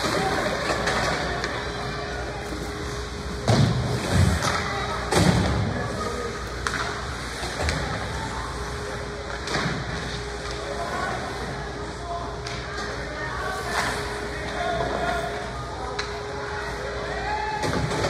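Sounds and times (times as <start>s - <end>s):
distant voices: 0.0s - 18.0s.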